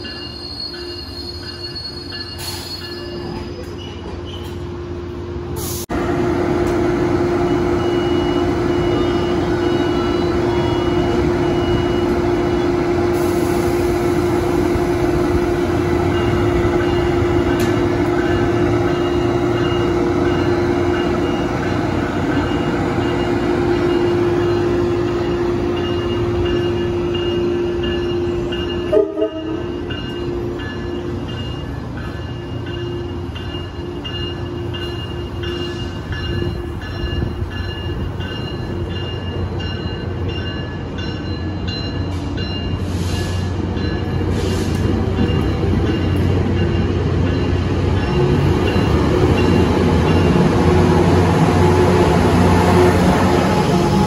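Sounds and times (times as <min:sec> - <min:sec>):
train wheel and rail noise: 0:00.0 - 0:54.0
locomotive engine hum: 0:03.0 - 0:54.0.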